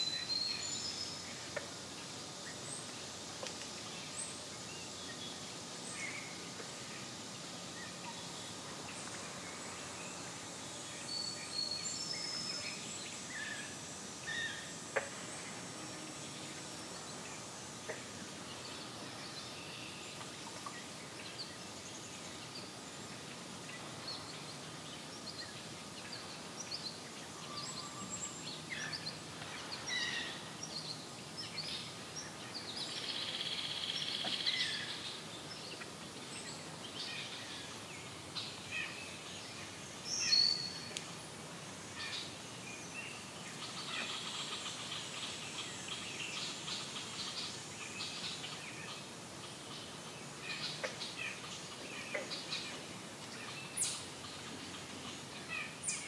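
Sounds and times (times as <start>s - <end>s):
faint hiss: 0.0s - 56.0s
songbirds calling: 0.0s - 56.0s.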